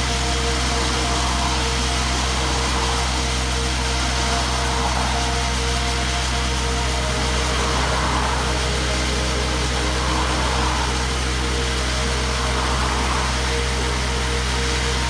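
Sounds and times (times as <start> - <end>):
core drill hissing through road: 0.0 - 15.0
diesel engine droning: 0.0 - 15.0.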